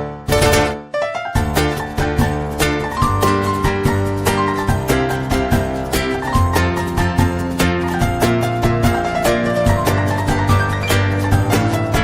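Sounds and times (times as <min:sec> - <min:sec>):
plucked strings: 0:00.0 - 0:12.0.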